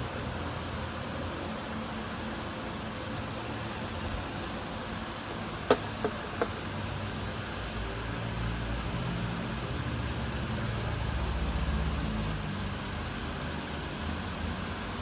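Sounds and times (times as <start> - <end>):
workshop machinery hum: 0.0 - 15.0.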